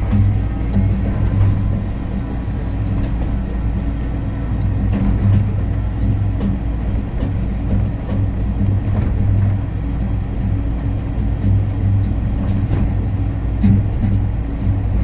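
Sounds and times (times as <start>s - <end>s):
people-mover car humming: 0.0s - 15.0s.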